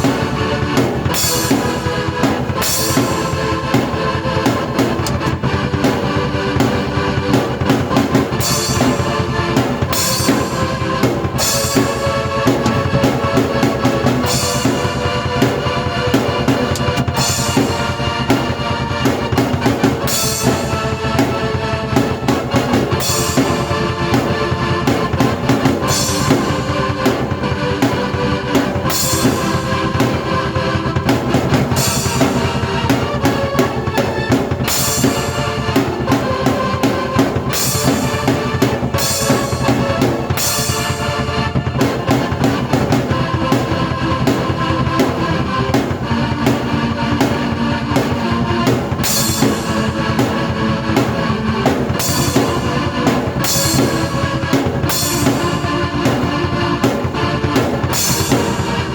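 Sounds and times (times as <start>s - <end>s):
keyboard chords: 0.0s - 58.9s
rock drum kit beat: 0.0s - 58.9s.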